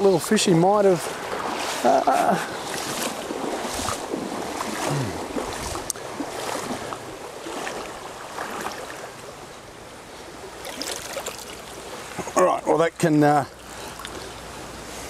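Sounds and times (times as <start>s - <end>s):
water splashing around legs: 0.0s - 9.2s, 10.5s - 12.4s, 13.5s - 14.6s
stream running over rocks: 0.0s - 15.0s.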